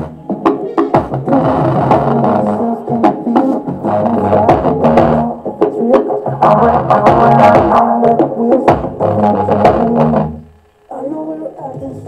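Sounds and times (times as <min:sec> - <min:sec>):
pop song over speaker: 0:00.0 - 0:12.0.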